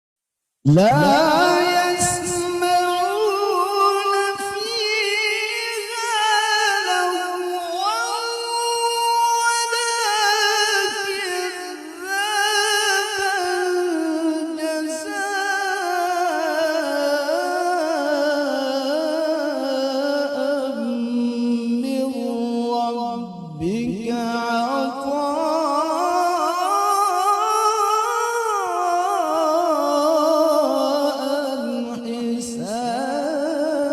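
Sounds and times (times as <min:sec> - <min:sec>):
man reciting melodically: 0:00.7 - 0:33.9.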